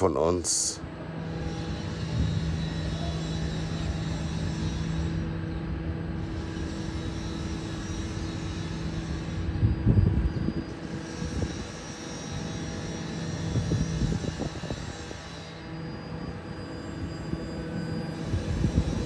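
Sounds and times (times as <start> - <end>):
tram electrical hum: 0.0 - 19.0
tram rumbling along track: 0.0 - 19.0.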